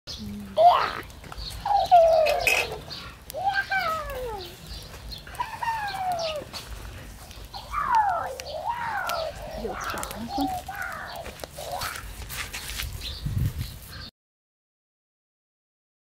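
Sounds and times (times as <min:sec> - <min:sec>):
chickens calling: 0:00.1 - 0:14.1.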